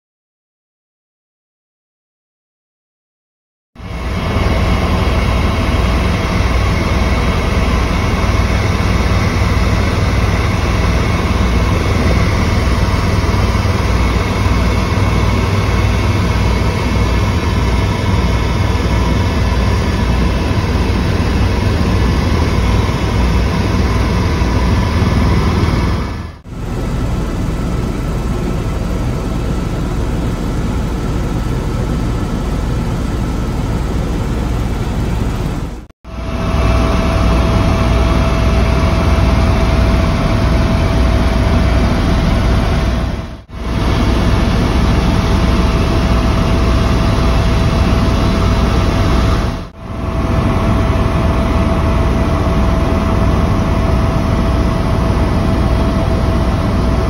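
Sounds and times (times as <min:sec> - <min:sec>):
helicopter rotor and turbine drone: 0:03.8 - 0:57.0
steady whining tones: 0:03.8 - 0:57.0.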